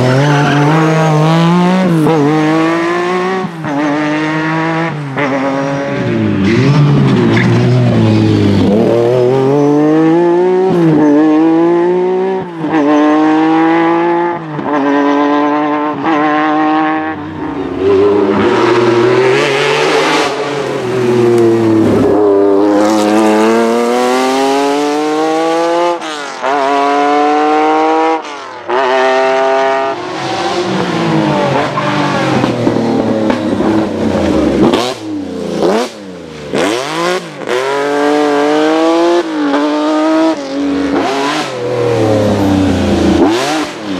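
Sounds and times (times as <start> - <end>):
rally car engine revving: 0.0 - 43.9.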